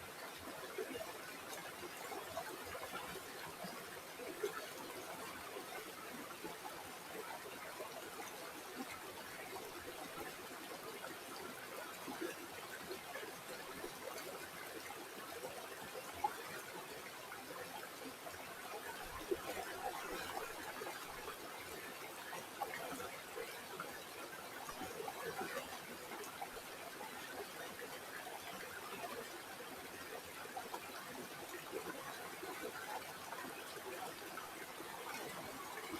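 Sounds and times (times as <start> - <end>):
river water trickling: 0.0 - 35.9.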